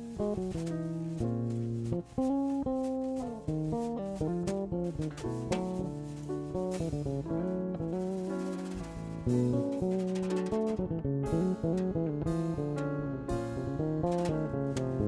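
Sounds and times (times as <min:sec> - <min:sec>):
drums played with brushes: 0:00.0 - 0:14.9
bass guitar: 0:00.0 - 0:15.0
grand piano: 0:00.0 - 0:15.0.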